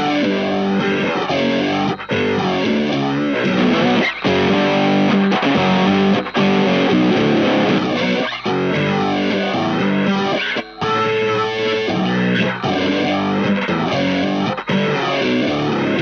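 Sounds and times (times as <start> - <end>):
fuzzed electric guitar riffing: 0.0 - 16.0.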